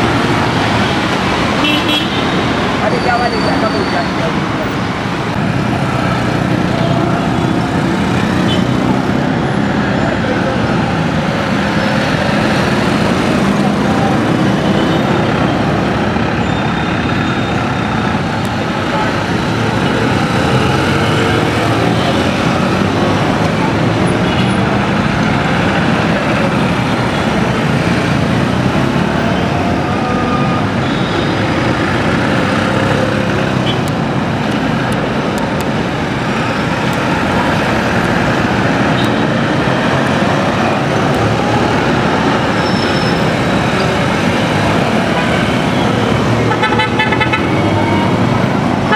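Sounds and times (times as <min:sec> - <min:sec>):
traffic engines idling: 0:00.0 - 0:48.9
people's voices: 0:02.4 - 0:16.3, 0:18.0 - 0:46.5.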